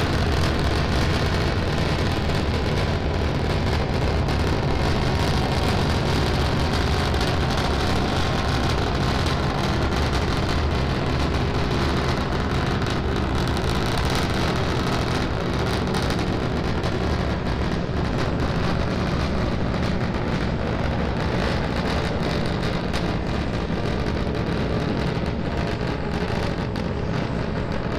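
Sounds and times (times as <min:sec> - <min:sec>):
distant rocket engines rumbling: 0:00.0 - 0:27.9.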